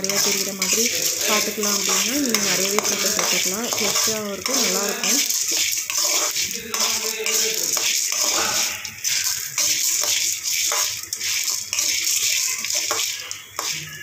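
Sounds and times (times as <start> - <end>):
spatula scraping a pan: 0.0 - 14.0
steady hiss: 0.0 - 14.0.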